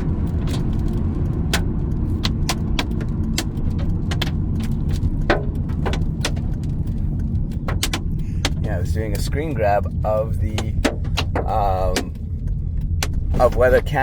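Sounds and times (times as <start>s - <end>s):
car road and engine rumble: 0.0s - 14.0s
hailstones striking a car: 0.0s - 14.0s.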